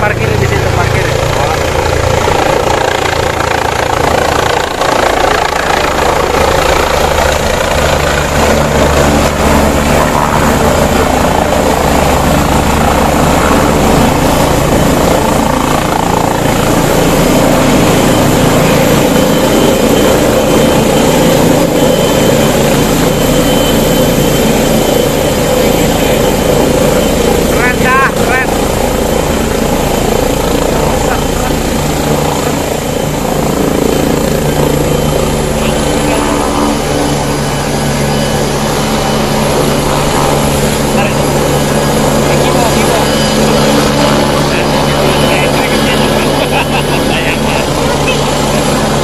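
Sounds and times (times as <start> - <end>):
helicopter rotor and engine: 0.0 - 49.0.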